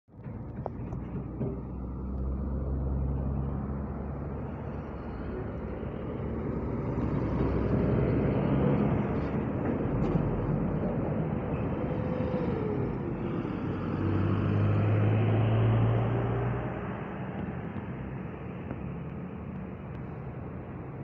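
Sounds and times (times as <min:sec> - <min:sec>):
heavy trucks passing: 0:00.1 - 0:21.0.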